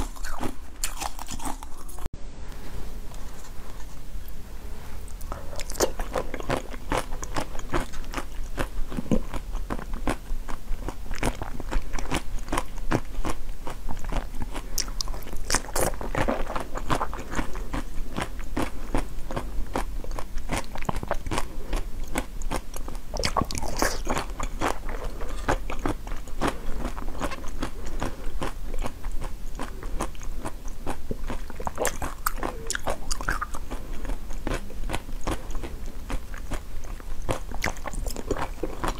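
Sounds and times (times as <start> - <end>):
crunchy chewing: 0.0 - 2.1, 5.0 - 38.9.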